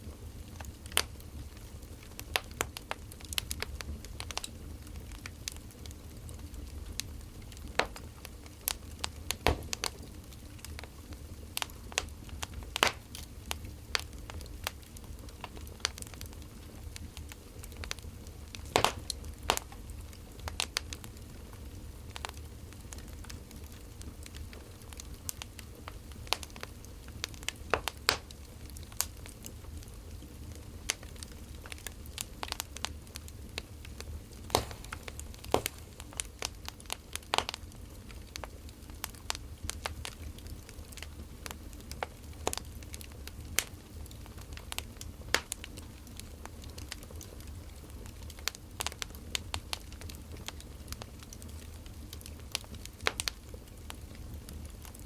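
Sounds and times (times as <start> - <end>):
firewood crackling and popping: 0.0 - 55.0.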